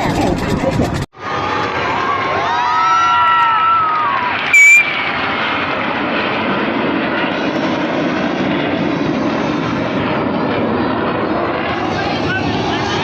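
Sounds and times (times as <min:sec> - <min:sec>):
jet engines overhead: 0:00.0 - 0:13.0.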